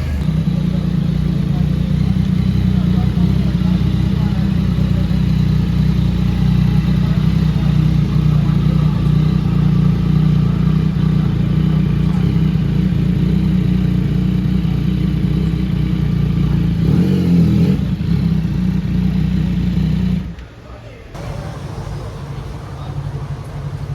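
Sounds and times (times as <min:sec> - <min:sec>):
motorcycle engine running: 0:00.0 - 0:20.5, 0:21.2 - 0:23.9.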